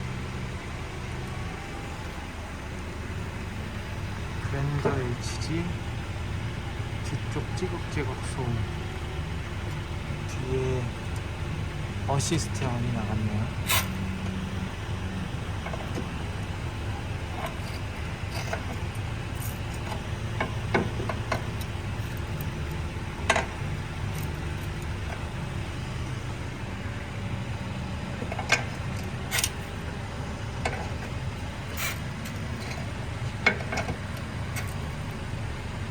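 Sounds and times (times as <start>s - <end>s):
low car rumble: 0.0s - 35.9s
car suspension creaking: 3.7s - 35.9s.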